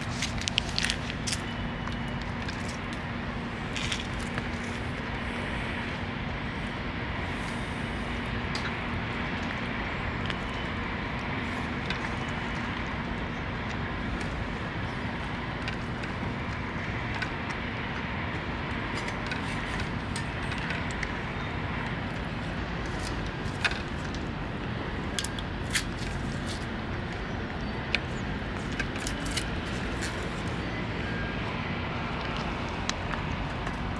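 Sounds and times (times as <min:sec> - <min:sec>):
outdoor background rumble: 0:00.0 - 0:33.9.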